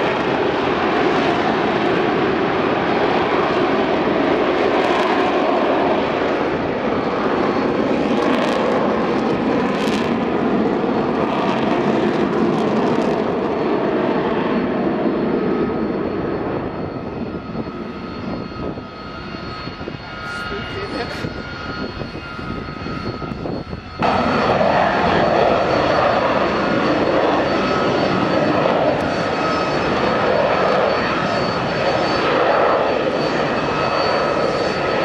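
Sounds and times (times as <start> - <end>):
loud jet roar: 0.0 - 35.0.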